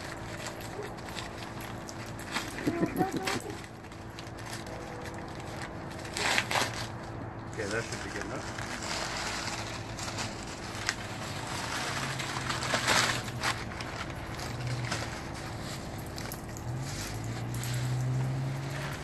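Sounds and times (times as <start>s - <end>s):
bubble wrap and paper crinkling: 0.0s - 19.0s.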